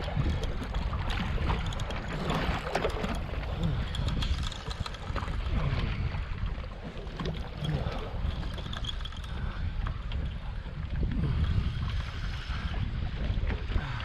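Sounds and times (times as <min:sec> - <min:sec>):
water sloshing against boat: 0:00.0 - 0:14.0
wind buffeting microphone: 0:00.0 - 0:14.0.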